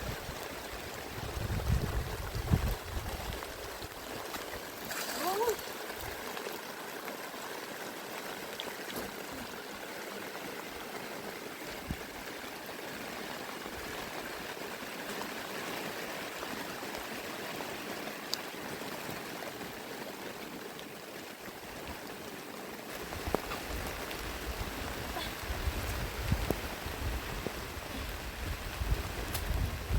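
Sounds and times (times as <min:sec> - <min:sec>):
steady rain falling: 0:00.0 - 0:29.9.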